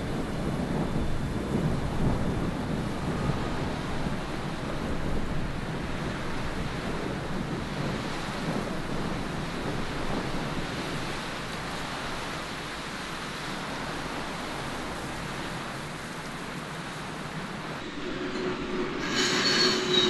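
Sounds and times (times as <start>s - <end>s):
wind blowing: 0.0s - 20.0s.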